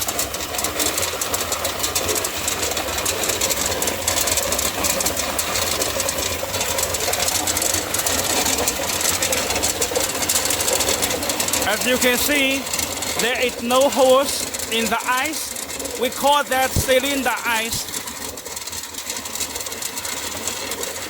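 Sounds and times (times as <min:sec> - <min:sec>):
fast clicking rattle: 0:00.0 - 0:21.0
ice machine compressor hum: 0:00.0 - 0:21.0.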